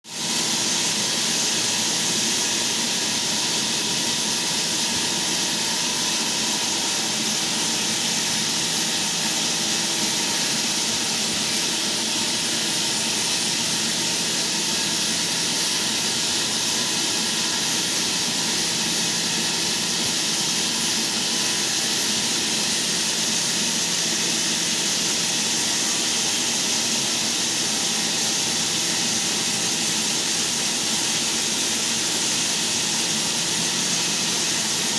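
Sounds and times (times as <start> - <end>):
electric saw whining: 0.1 - 34.9.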